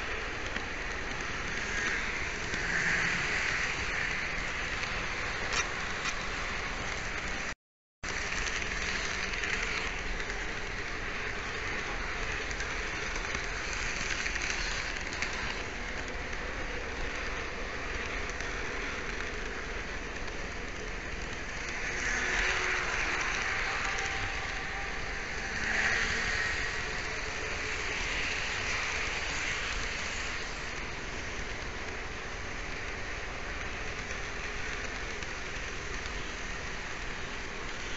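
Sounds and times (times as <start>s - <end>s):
model train rolling on track: 0.0s - 37.9s.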